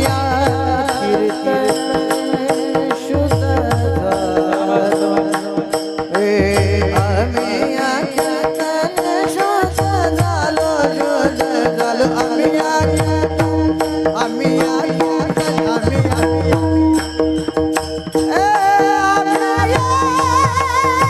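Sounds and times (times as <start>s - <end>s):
man singing: 0.0s - 17.4s, 18.0s - 21.0s.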